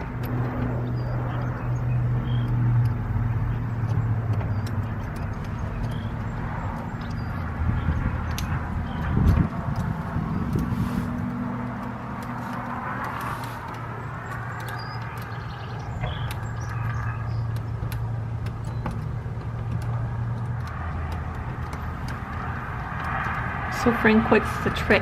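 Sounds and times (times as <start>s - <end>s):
faint small clicks: 0.0s - 23.5s
vehicle engine humming: 0.0s - 25.0s.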